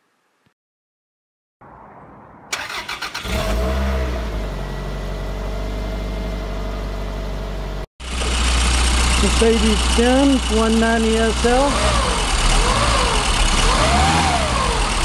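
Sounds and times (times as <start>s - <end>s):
car engine idling: 2.6s - 15.0s.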